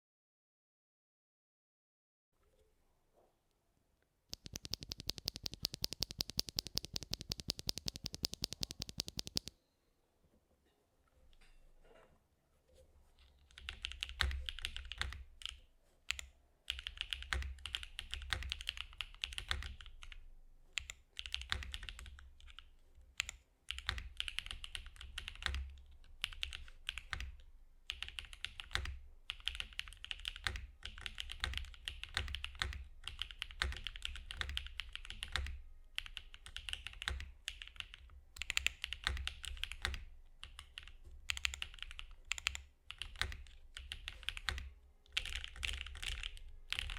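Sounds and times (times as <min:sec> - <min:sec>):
mechanical keyboard typing: 0:04.3 - 0:09.5, 0:13.5 - 0:20.2, 0:20.8 - 0:46.9.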